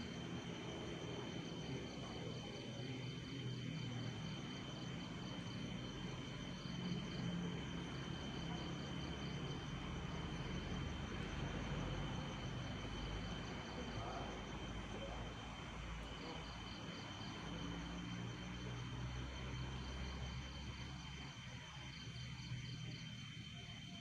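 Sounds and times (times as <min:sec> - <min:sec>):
insects trilling: 0:00.0 - 0:24.0
pulsing cricket chirps: 0:00.0 - 0:24.0.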